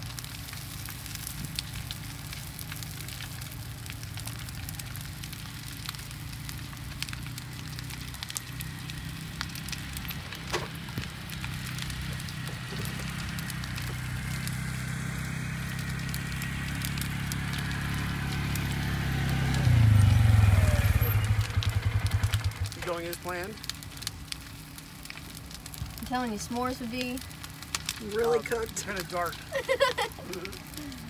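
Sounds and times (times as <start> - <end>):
bonfire crackling: 0.0 - 31.0
low steady rumble: 0.0 - 31.0.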